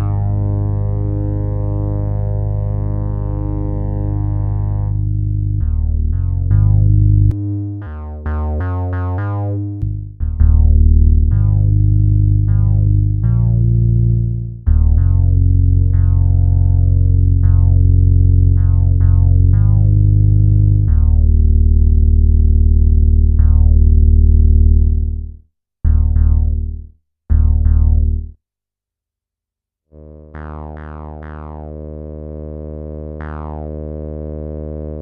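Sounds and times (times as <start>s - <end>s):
synthesizer bass line: 0.0s - 25.3s, 25.9s - 28.3s, 30.0s - 35.0s.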